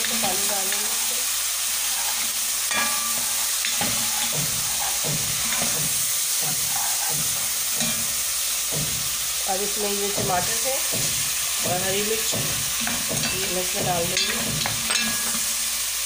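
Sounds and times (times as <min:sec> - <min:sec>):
spatula stirring in pot: 0:00.0 - 0:15.6
onions sizzling in hot oil: 0:00.0 - 0:16.0.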